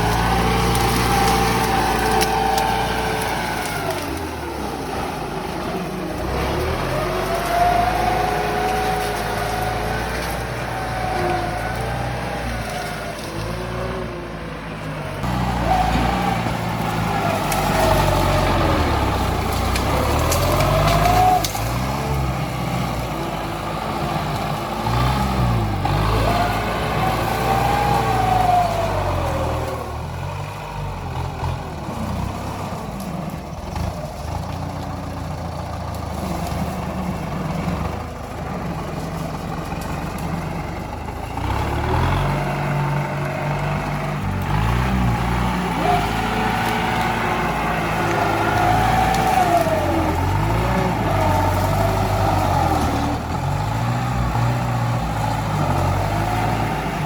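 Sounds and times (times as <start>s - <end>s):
tractor engine working hard: 0.0s - 57.0s.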